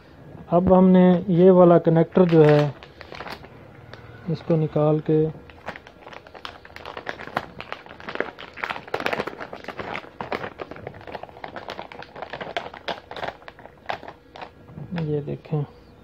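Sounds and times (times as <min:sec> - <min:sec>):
plastic and paper crinkling: 0:01.1 - 0:15.4.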